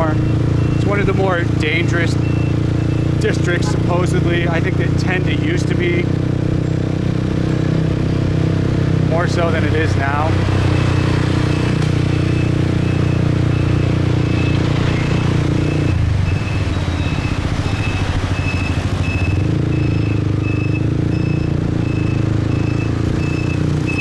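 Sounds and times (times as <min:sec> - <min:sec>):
motorbike engine: 0:00.0 - 0:24.0.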